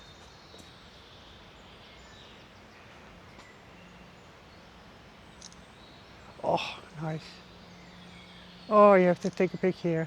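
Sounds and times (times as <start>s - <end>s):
distant bird chirps: 0.0s - 10.0s
steady low hiss: 0.0s - 10.0s.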